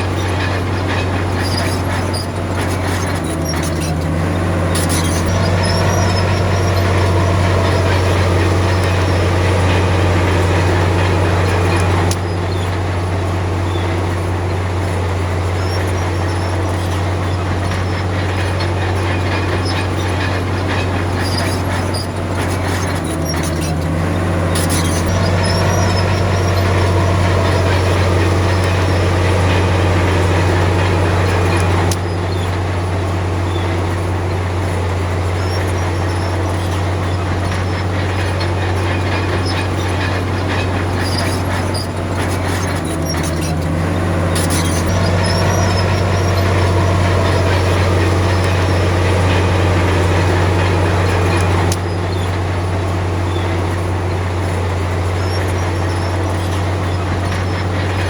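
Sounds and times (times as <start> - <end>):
bulldozer diesel engine drone: 0.0 - 58.0
dense metallic rattle: 0.0 - 58.0.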